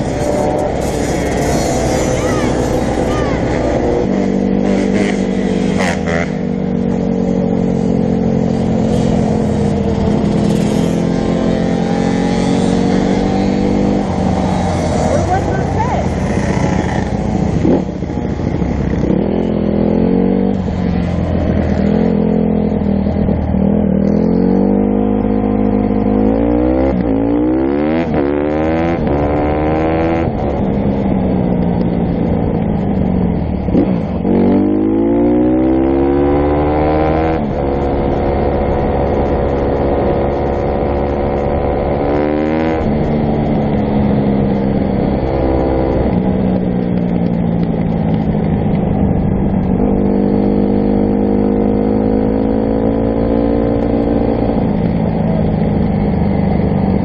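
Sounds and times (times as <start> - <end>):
dirt bike engine accelerating: 0.0 - 57.0.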